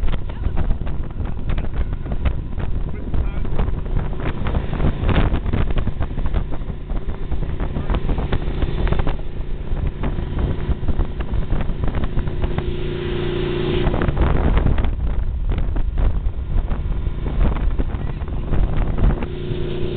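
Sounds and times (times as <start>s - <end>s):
motorcycle engine running: 0.0s - 19.9s
wind buffeting microphone: 0.0s - 19.9s.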